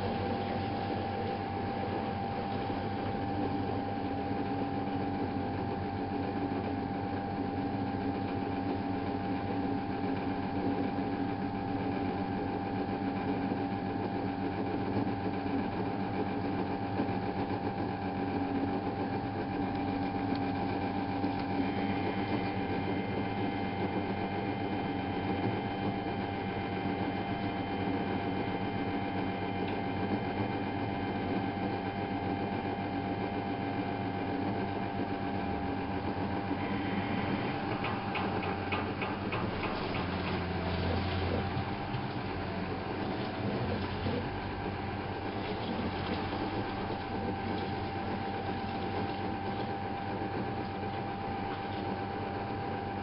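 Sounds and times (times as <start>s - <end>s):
washing machine motor humming: 0.0s - 53.0s.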